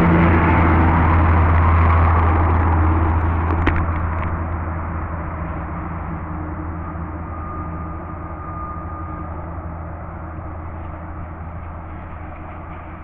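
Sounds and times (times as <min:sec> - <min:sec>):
motor engine running: 0:00.0 - 0:13.0.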